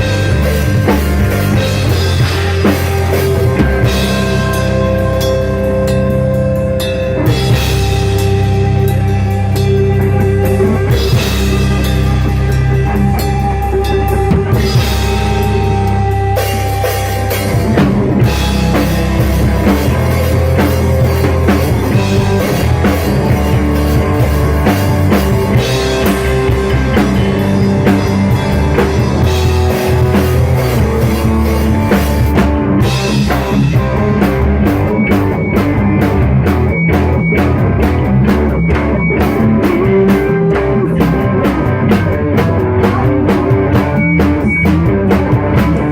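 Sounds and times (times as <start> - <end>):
rock music with drums bass and guitar: 0.0 - 45.9.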